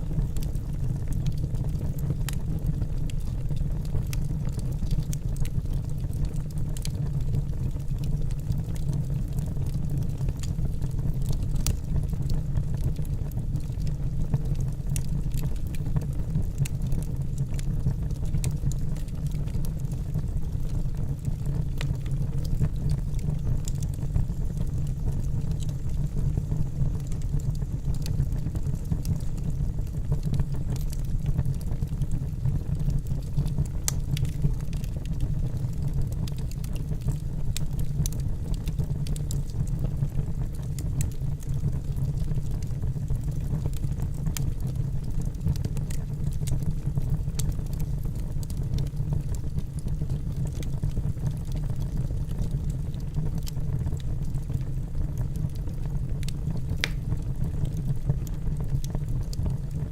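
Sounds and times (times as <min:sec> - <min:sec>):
fire flames rumbling: 0:00.0 - 0:59.9
logs crackling and popping: 0:00.0 - 0:59.9.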